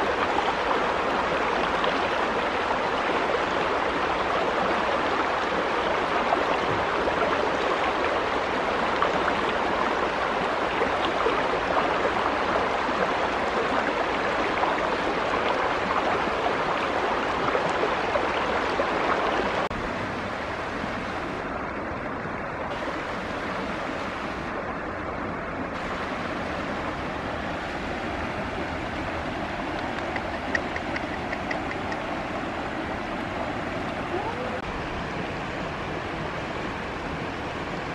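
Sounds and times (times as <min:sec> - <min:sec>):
steady rushing outdoor noise: 0:00.0 - 0:37.9.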